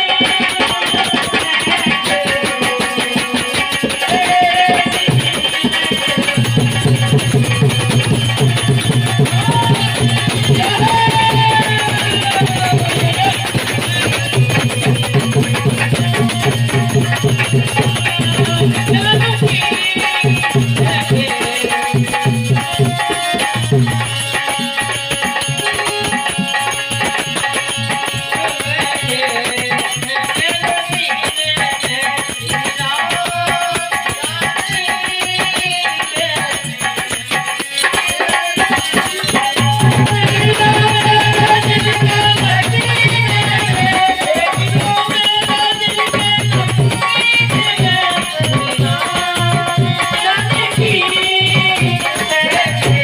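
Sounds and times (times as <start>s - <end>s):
hand drum quick rhythm: 0.0s - 53.0s
harmonium and keyboard melody: 0.0s - 53.0s
jingling hand percussion: 0.0s - 53.0s.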